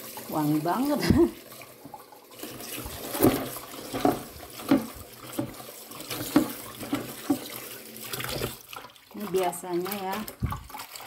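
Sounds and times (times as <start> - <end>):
tap water pouring into pot: 0.0 - 11.0.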